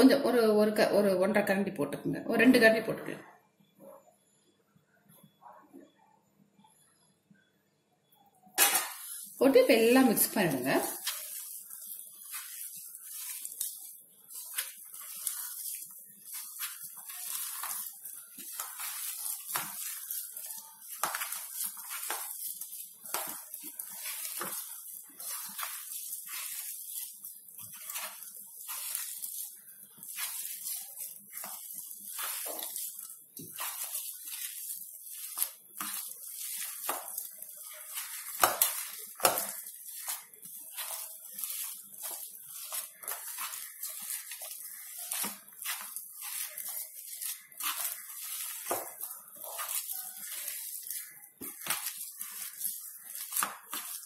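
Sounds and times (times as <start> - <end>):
hands squishing food mixture: 8.6 - 54.0.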